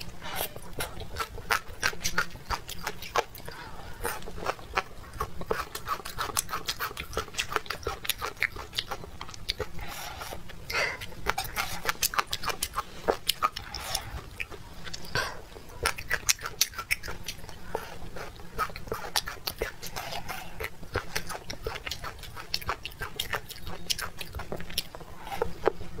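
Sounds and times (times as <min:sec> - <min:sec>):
person chewing wet smacks: 0:00.0 - 0:25.8.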